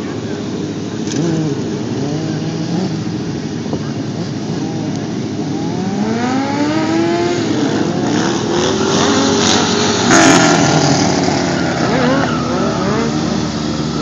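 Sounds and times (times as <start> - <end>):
motorcycle accelerating: 0.0 - 14.0
motorcycle engines running: 0.0 - 14.0.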